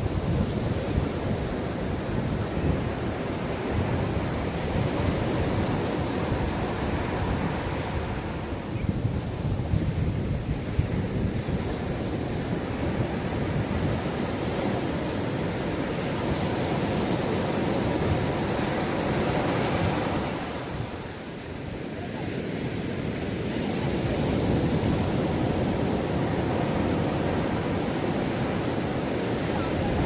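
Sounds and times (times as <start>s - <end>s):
sea waves breaking on beach: 0.0s - 30.0s
wind buffeting microphone: 0.0s - 30.0s.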